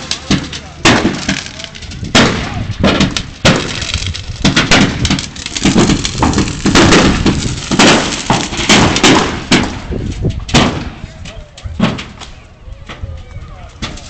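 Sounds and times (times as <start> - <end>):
fireworks bangs: 0.0 - 13.0
fireworks crackling: 0.0 - 14.0.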